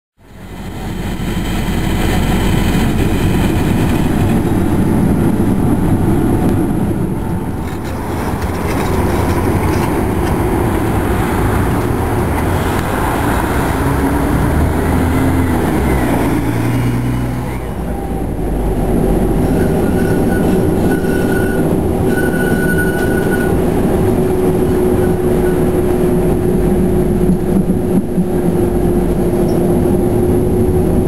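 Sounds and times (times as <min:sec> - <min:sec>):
bus engine: 0:00.2 - 0:31.0
tram rumbling: 0:00.2 - 0:31.0
trams rolling on rails: 0:00.2 - 0:31.0.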